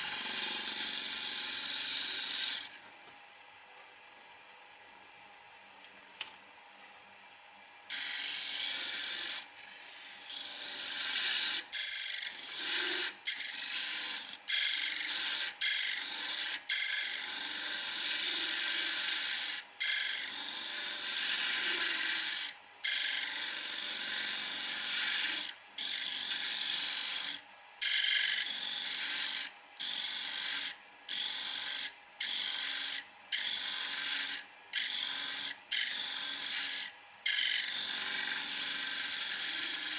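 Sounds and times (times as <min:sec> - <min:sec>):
chisel scraping wood on lathe: 0:00.0 - 0:02.7, 0:07.9 - 0:39.9.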